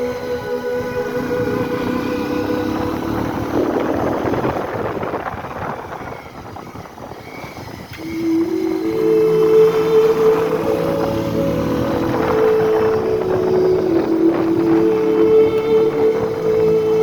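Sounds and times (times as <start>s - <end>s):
motorcycle engine speeding up: 0.0s - 17.0s
wind noise rushing: 0.0s - 17.0s.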